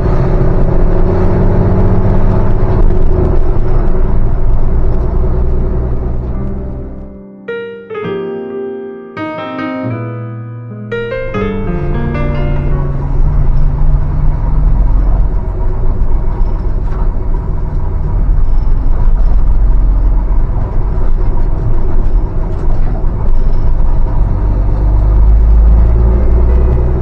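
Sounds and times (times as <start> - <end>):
bus diesel engine rumble: 0.0 - 7.2, 11.0 - 27.0.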